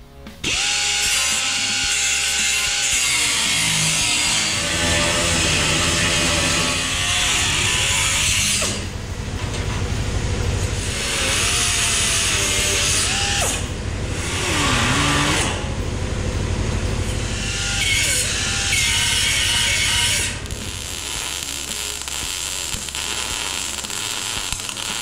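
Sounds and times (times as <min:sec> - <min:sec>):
pneumatic grinder cutting sheet metal: 0:00.4 - 0:09.9, 0:10.6 - 0:15.8, 0:17.0 - 0:25.0.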